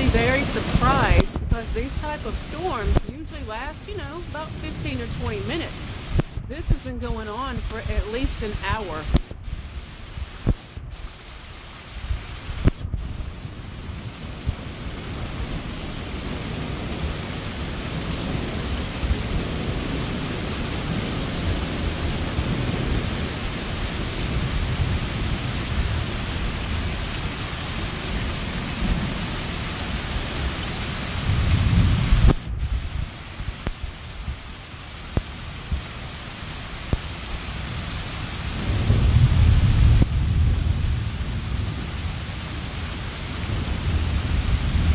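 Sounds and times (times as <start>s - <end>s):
thunder rumbling: 0.0s - 11.1s, 12.0s - 34.4s, 38.4s - 44.9s
steady rain on roofs: 0.0s - 44.9s.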